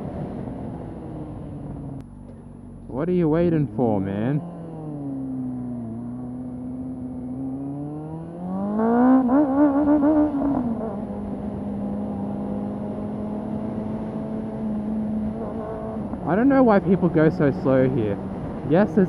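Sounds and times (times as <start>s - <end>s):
muffled motorcycle engine: 0.0s - 19.0s.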